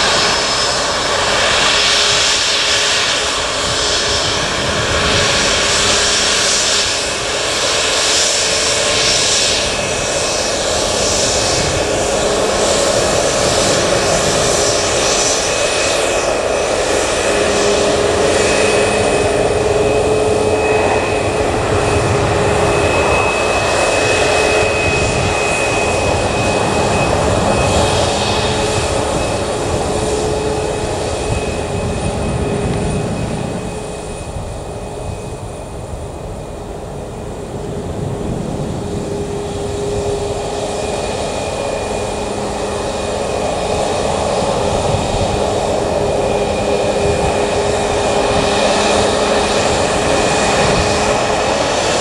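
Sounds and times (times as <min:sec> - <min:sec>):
jet engine whine: 0:00.0 - 0:52.0.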